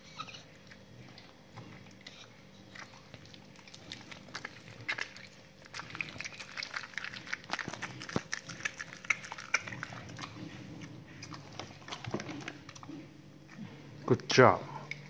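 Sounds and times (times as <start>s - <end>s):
dog chewing raw meat: 0.0s - 14.1s.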